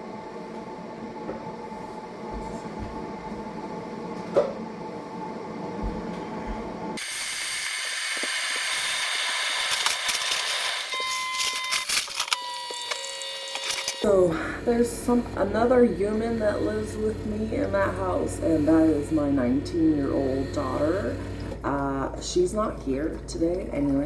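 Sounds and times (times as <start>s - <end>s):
coffee maker humming: 0.0s - 11.5s, 12.5s - 24.0s.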